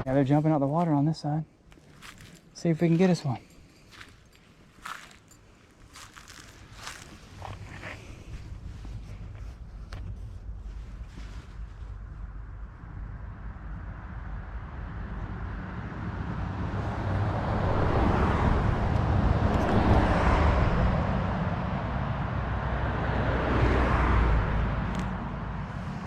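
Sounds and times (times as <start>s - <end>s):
road vehicles passing: 0.0s - 26.0s.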